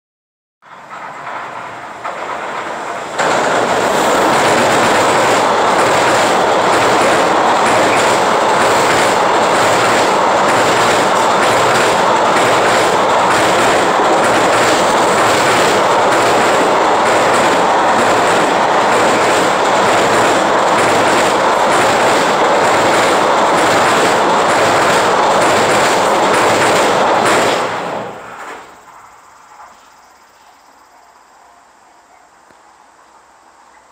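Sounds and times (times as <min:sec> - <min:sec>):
freight train on steel bridge: 0:00.6 - 0:33.9
wheels clacking over rail joints: 0:00.7 - 0:28.8.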